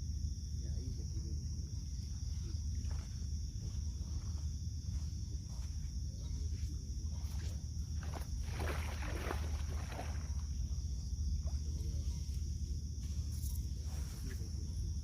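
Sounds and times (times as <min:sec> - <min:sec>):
night insects droning: 0:00.0 - 0:15.0.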